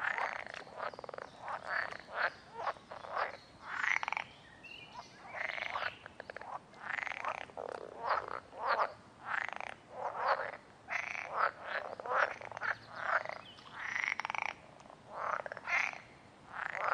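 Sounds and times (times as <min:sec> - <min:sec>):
frogs croaking: 0:00.0 - 0:16.9.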